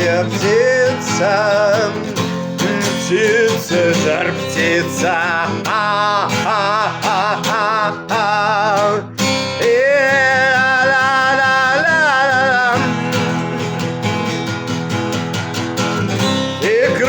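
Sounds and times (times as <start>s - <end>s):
person singing wordless vocal: 0.0s - 13.8s, 16.5s - 17.0s
acoustic guitar strumming: 0.0s - 17.0s.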